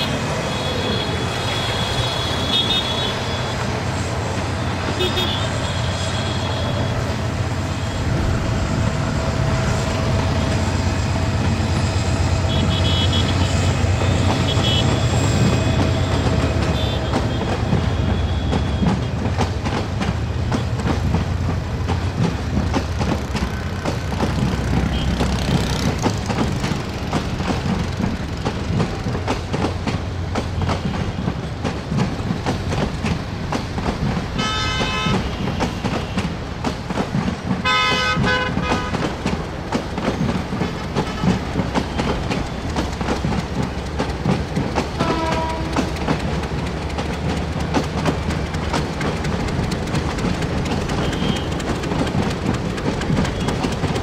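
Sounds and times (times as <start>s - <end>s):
diesel locomotive engine rumble: 0.0s - 54.0s
train wheels clicking over rail joints: 0.0s - 54.0s.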